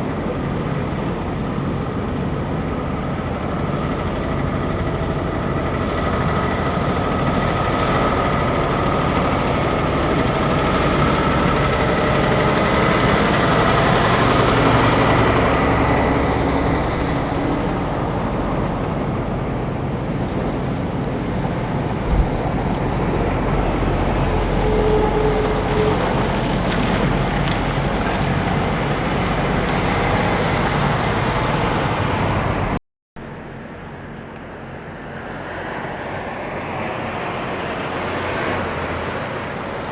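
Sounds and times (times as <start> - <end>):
trucks driving past: 0.0 - 39.9.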